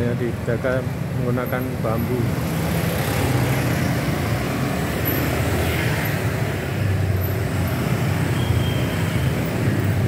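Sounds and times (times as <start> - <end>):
motorcycles and scooters passing: 1.0 - 10.0.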